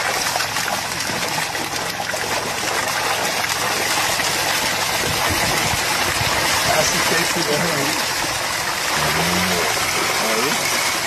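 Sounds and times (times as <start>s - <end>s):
fish splashing at the surface: 0.0s - 11.0s.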